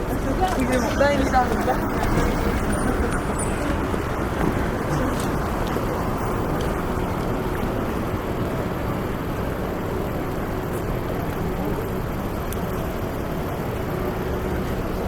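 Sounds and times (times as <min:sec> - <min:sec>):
road traffic rumble: 0:00.0 - 0:15.0
wind buffeting microphone: 0:00.0 - 0:15.0.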